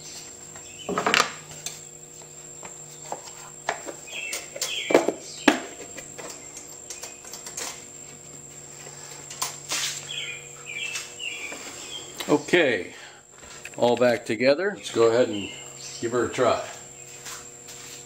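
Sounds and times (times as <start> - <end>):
birds chirping faintly: 0.0 - 8.2, 8.8 - 17.3.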